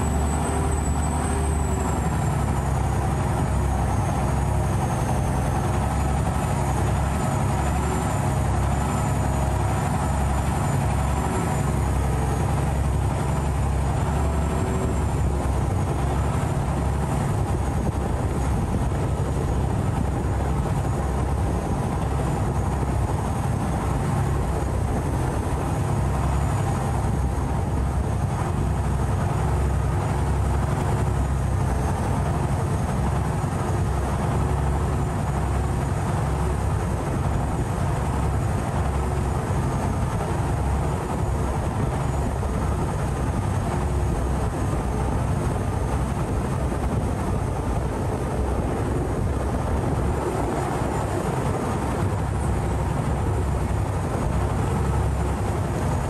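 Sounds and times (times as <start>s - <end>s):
boat diesel engine drone: 0.0s - 56.0s.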